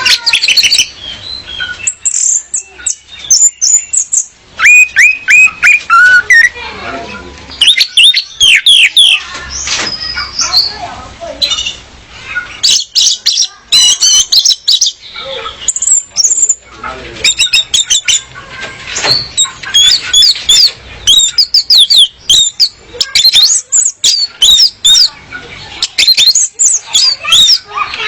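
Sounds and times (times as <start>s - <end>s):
thrush calling: 0.0s - 6.9s, 7.6s - 28.0s.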